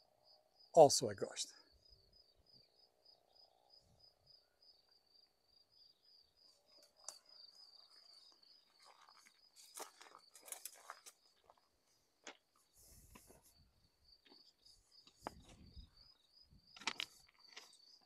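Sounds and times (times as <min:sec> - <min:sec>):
cricket trilling: 0:00.2 - 0:11.7, 0:12.7 - 0:18.0.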